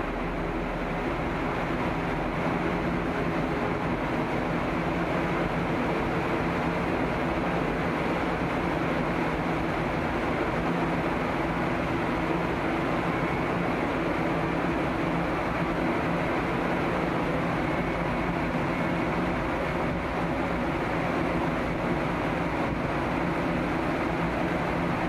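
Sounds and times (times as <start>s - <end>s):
ferry engines humming: 0.0s - 25.0s
water rushing along hull: 0.0s - 25.0s
wind: 0.0s - 25.0s.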